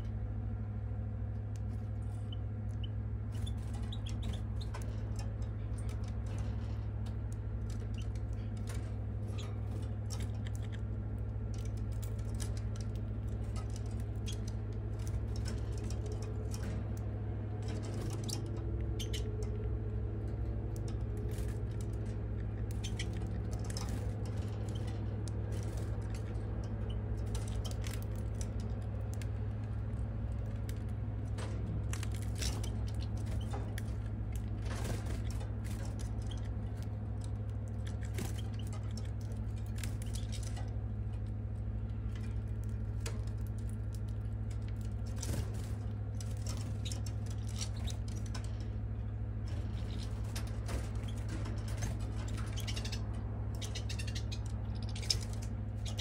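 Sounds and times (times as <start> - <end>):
steady low hum: 0.0 - 56.0
small irregular clicks: 1.3 - 56.0.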